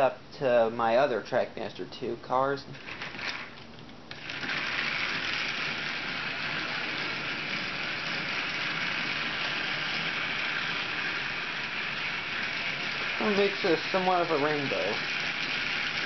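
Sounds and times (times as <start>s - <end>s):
toy train motor whirring: 2.7s - 16.0s.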